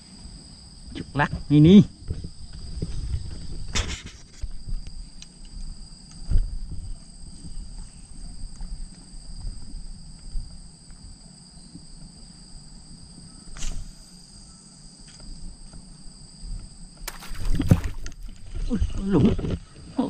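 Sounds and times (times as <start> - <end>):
insect chorus buzzing: 0.0 - 20.0.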